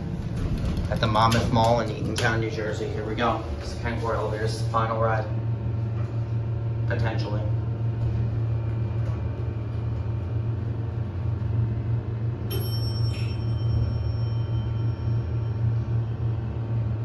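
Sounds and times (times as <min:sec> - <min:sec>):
elevator low hum: 0:00.0 - 0:17.0.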